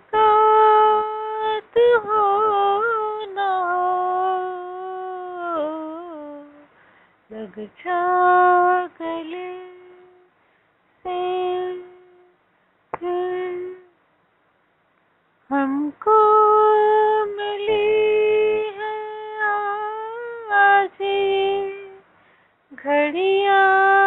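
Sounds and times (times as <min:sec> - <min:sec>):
woman singing unaccompanied: 0:00.0 - 0:10.4, 0:11.0 - 0:14.0, 0:15.4 - 0:22.1, 0:22.7 - 0:24.0.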